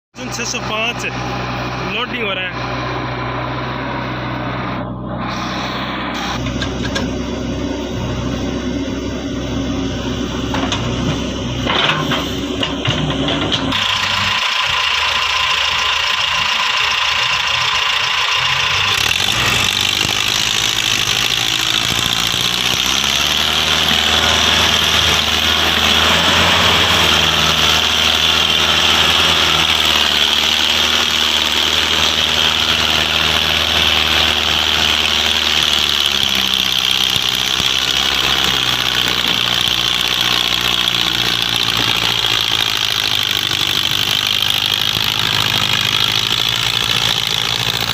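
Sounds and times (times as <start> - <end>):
diesel engine running under load: 0.1 - 47.9.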